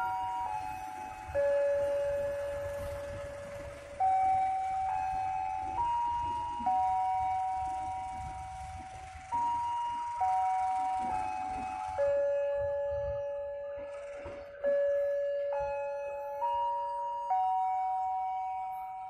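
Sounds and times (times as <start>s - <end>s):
electronic public-address chime melody: 0.0s - 19.0s.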